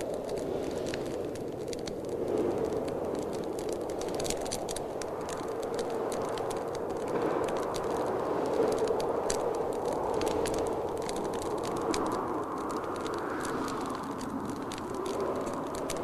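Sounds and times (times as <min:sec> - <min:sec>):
blizzard wind rushing: 0:00.0 - 0:16.0
fire crackling and popping: 0:00.0 - 0:16.0.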